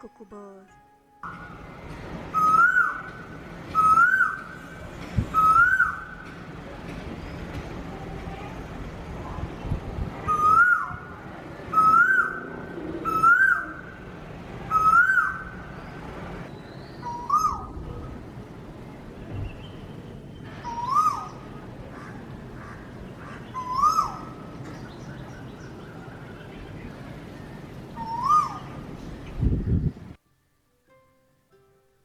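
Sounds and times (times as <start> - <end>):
cuckoo calling: 1.2 - 29.5.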